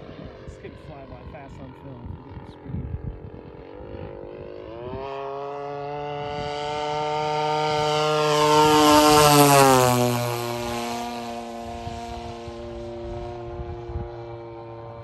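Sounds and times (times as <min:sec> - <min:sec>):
model airplane engine in flight: 0:00.0 - 0:15.0.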